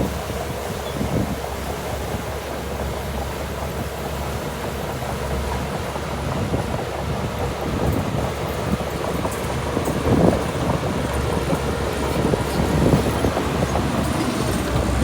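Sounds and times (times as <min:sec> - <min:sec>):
diesel machinery engine drone: 0:00.0 - 0:15.0
machinery clatter: 0:00.8 - 0:15.0.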